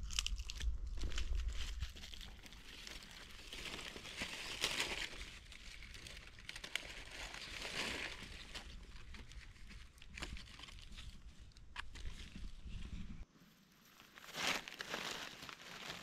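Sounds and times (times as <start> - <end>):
dry leaves rustling: 0.2 - 12.6, 13.5 - 16.0.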